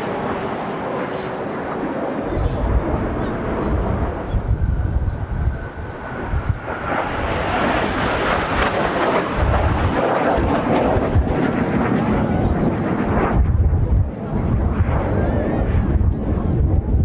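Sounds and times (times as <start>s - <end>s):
jet noise: 0.0s - 17.0s
wind buffeting microphone: 1.8s - 17.0s.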